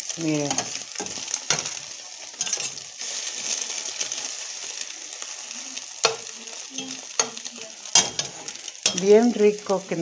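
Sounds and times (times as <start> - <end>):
eggs sizzling in pan: 0.0 - 10.0.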